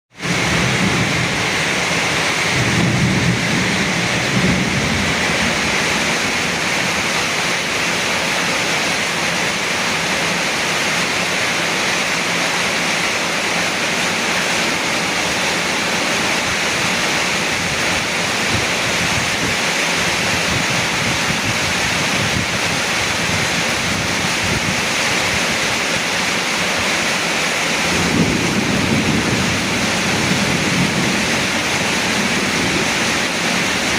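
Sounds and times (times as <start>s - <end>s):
heavy rain in strong wind: 0.1s - 33.9s.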